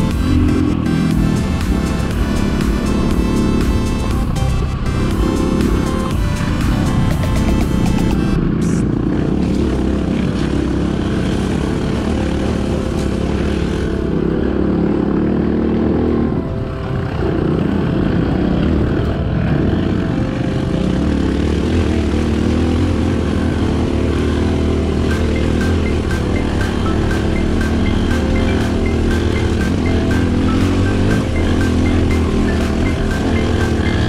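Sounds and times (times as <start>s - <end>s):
dirt bike engine running: 0.0s - 34.0s.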